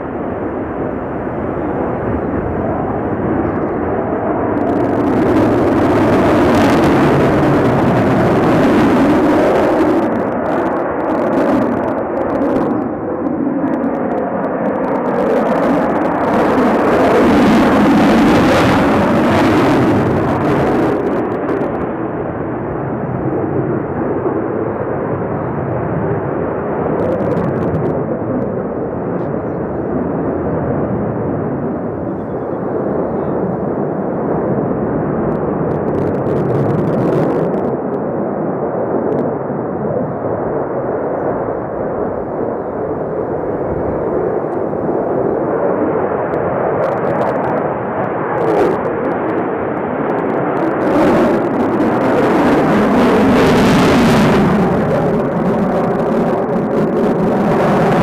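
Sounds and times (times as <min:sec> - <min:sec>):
fighter jet engine noise: 0:00.0 - 0:58.0.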